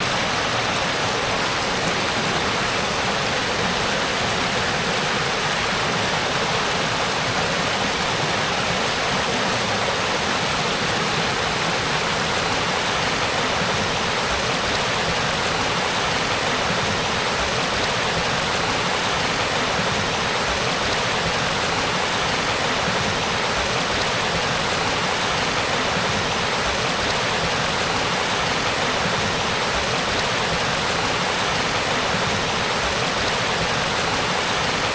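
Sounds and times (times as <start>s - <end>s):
stream babbling: 0.0s - 34.9s.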